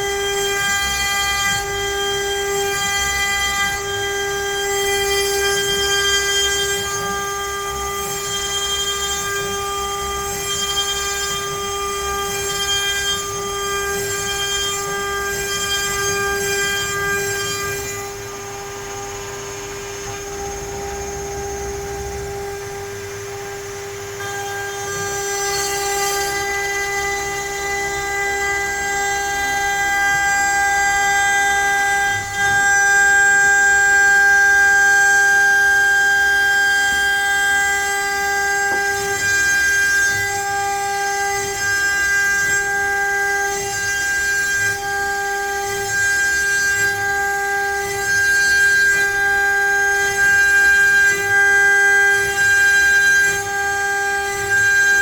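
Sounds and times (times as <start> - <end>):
router spindle high whine: 0.0 - 55.0.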